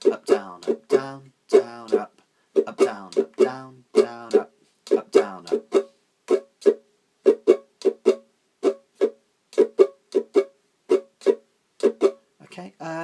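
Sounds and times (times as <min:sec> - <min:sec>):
muted ukulele strumming: 0:00.0 - 0:12.2.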